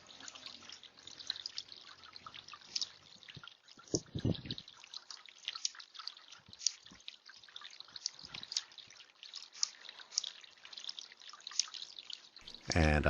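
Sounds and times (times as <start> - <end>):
water dripping in bird bath: 0.0 - 12.8.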